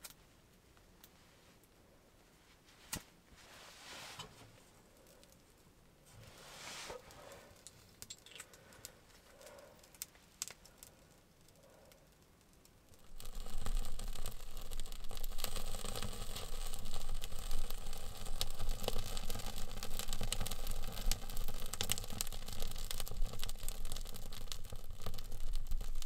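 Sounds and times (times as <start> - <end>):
fire crackling and popping: 4.2 - 26.0.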